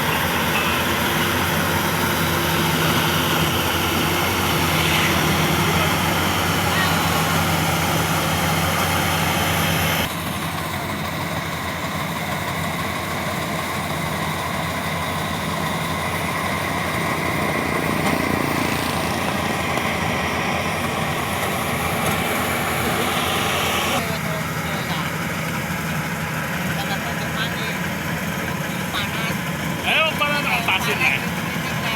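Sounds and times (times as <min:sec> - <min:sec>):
combine harvester engine running: 0:00.0 - 0:31.9.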